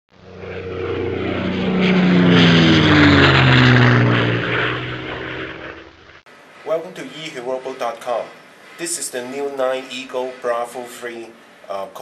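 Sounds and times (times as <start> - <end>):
propeller aircraft passing: 0.1 - 11.6.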